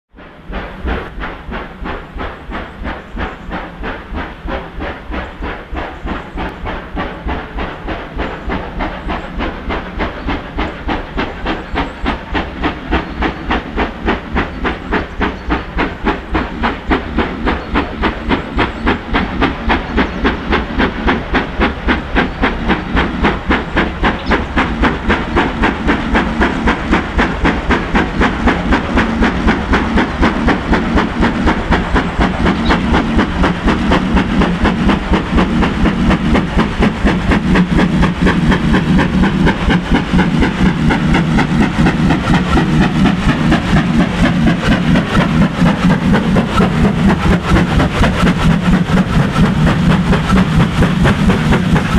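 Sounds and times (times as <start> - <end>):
steam locomotive chuffing: 0.2 - 51.9.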